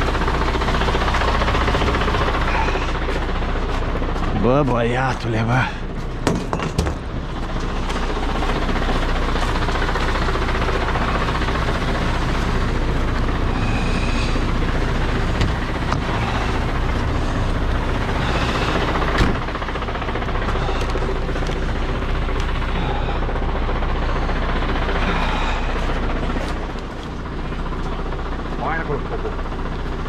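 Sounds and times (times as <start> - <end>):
diesel engine low rumble: 0.0 - 30.0.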